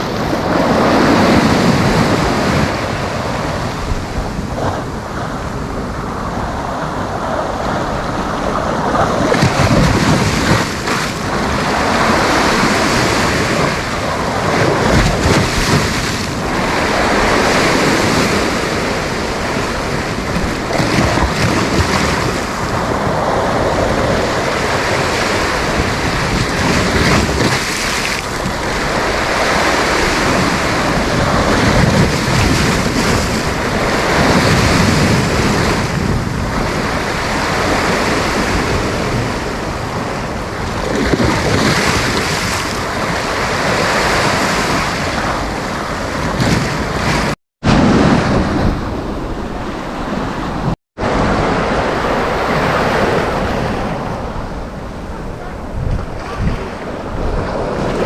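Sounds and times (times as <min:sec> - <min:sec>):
sea waves breaking on beach: 0:00.0 - 0:58.0
wind on microphone: 0:00.0 - 0:58.0.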